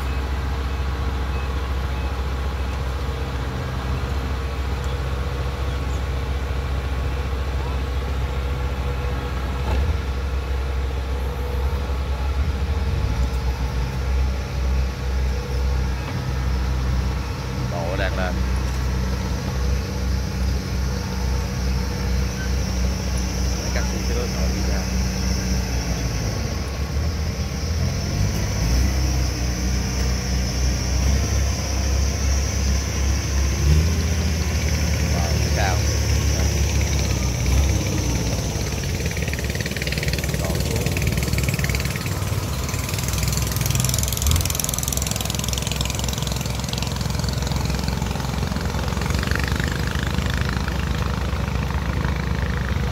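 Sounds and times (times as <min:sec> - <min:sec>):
diesel engine rumbling: 0:00.0 - 0:52.9.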